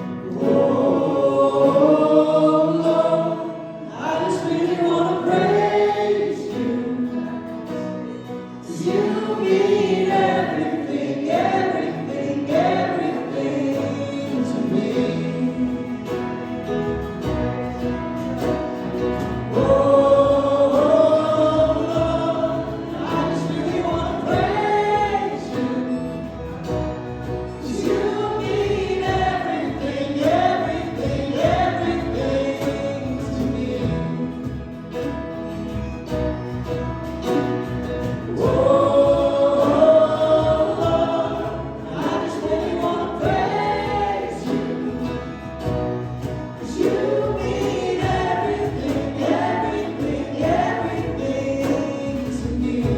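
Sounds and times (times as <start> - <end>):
instrumental accompaniment: 0.0 - 52.9
voices singing together: 0.0 - 52.9.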